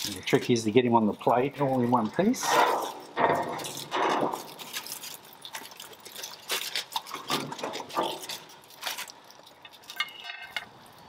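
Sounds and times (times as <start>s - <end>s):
foil and tongs crackling: 0.0s - 11.0s.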